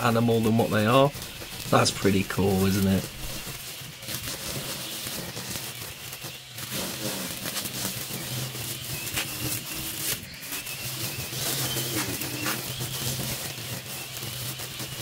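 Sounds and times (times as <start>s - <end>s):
line crackling against grass stems: 0.0s - 15.0s
string trimmer running: 0.0s - 15.0s.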